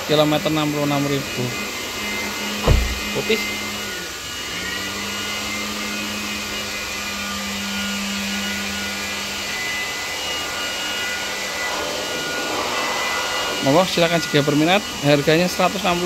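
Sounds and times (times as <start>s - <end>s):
cleaning machine motor whirring: 0.0s - 16.0s.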